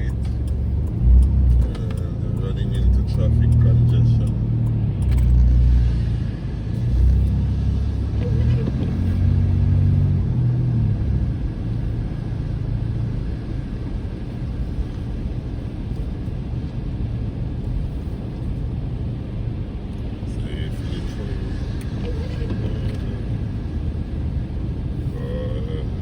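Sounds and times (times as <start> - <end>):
car engine rumble: 0.0 - 26.0
road rumble: 0.0 - 26.0.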